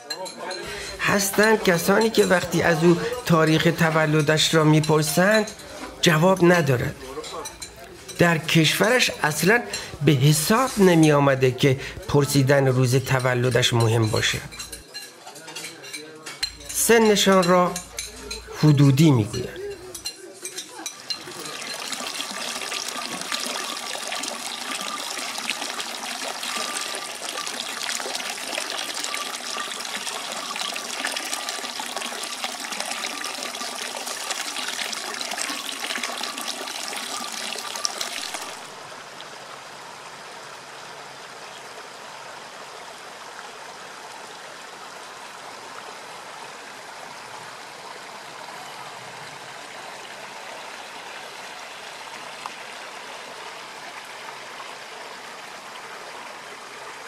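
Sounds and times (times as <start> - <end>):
mountain stream flowing: 0.0 - 15.1, 15.8 - 57.0
splashing water trickle: 0.2 - 57.0.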